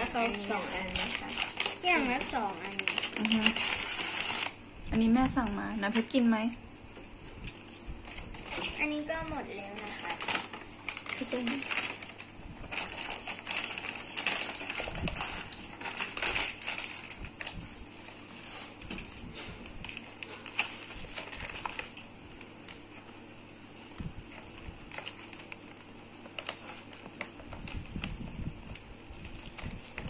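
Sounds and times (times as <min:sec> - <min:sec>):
paper bag crinkling and rustling: 0:00.0 - 0:06.5, 0:07.4 - 0:30.0.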